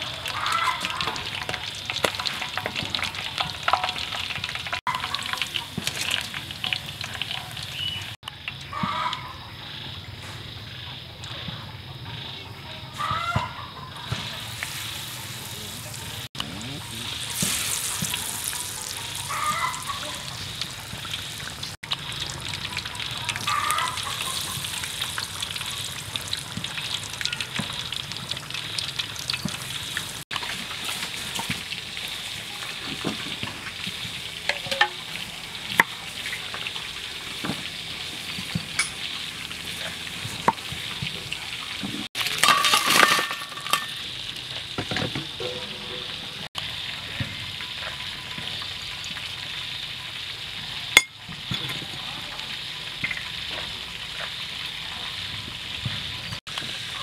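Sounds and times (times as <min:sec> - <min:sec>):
food deep-frying in oil: 0:00.0 - 0:12.3, 0:12.9 - 0:57.0.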